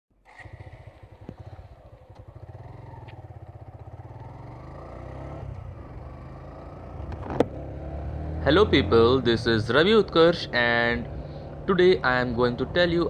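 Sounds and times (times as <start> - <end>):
motorcycle engine accelerating: 0.1 - 13.0.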